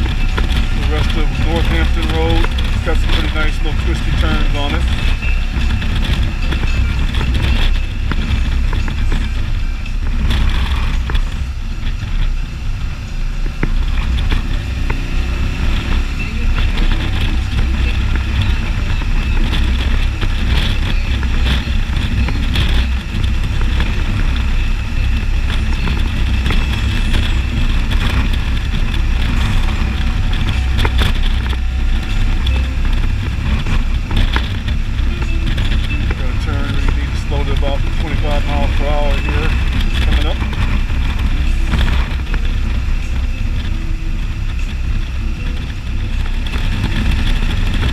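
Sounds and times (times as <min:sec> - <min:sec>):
motorcycle engine rumble: 0:00.0 - 0:47.9
road noise: 0:00.0 - 0:47.9.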